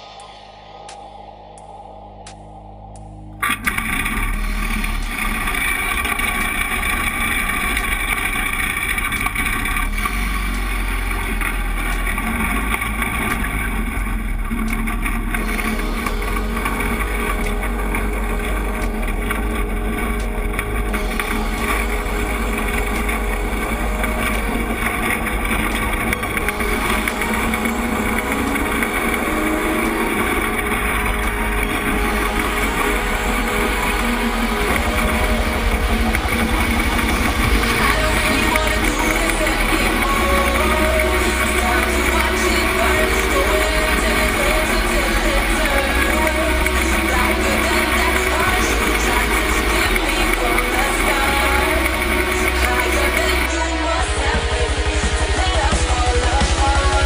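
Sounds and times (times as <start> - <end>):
go-kart engine running: 3.4 - 57.0.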